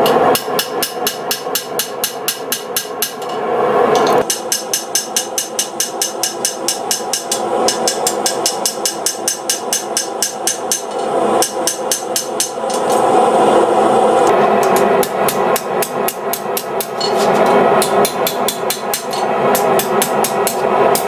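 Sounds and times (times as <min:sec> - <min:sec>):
hammer striking steel on anvil: 0:00.0 - 0:03.4, 0:04.0 - 0:13.0, 0:14.6 - 0:21.0
steady rushing noise: 0:00.0 - 0:21.0.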